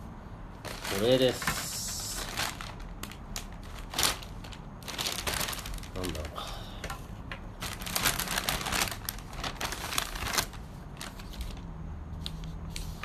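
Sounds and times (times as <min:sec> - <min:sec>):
wrapping paper rustling: 0:00.6 - 0:13.0.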